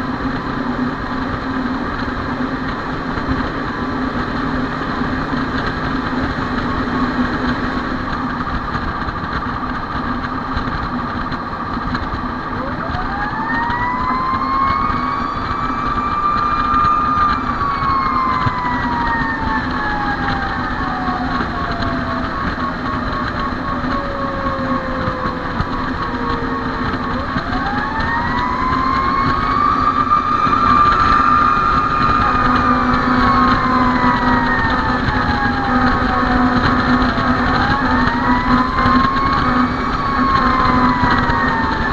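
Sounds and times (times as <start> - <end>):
fire engine siren wailing: 0.0 - 41.9
truck engine running: 0.0 - 41.9.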